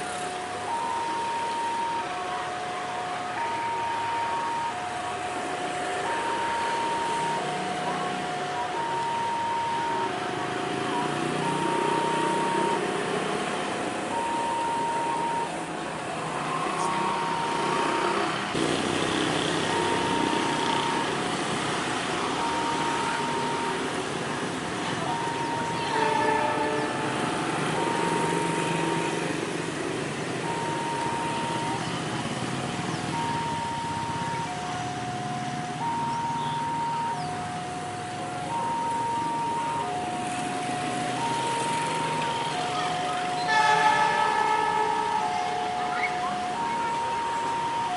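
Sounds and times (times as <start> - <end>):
level crossing alarm two-tone: 0.0 - 13.4, 14.0 - 15.7, 16.4 - 18.2, 19.4 - 47.9
vehicle rumble: 0.0 - 47.9.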